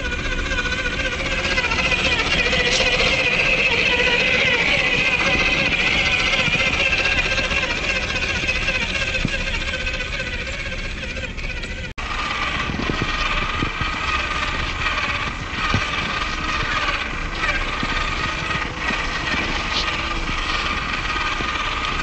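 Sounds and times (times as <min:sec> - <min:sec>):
toy car electric motor whining: 0:00.0 - 0:22.0.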